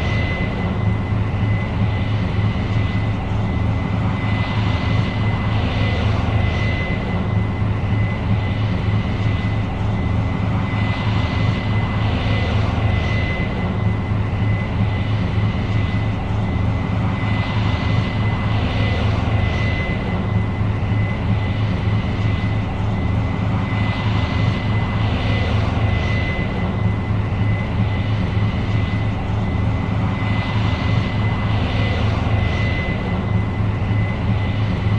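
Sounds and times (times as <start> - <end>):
combine harvester engine drone: 0.0 - 34.9
steady high whine: 0.0 - 34.9.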